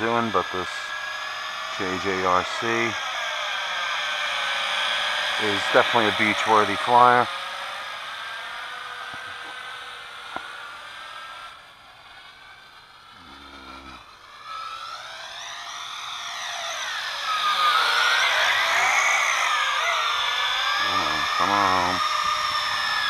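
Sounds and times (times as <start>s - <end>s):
toy drone motors whining: 0.0s - 23.0s.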